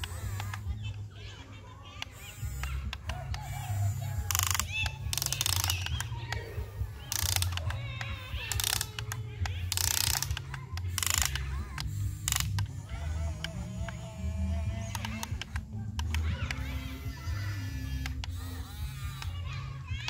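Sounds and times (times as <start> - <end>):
gear grinding and ratcheting: 0.0 - 1.0, 2.0 - 20.0
electric motors humming: 0.0 - 20.0.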